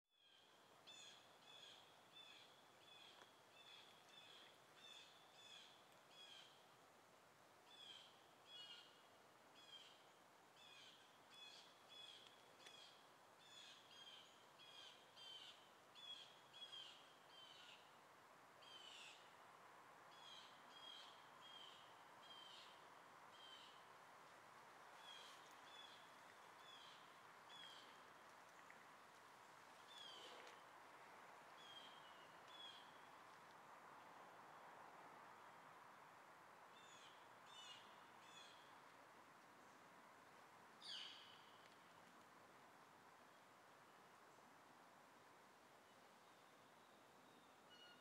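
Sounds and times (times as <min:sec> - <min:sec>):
faint steady background hiss: 0:00.2 - 0:48.0.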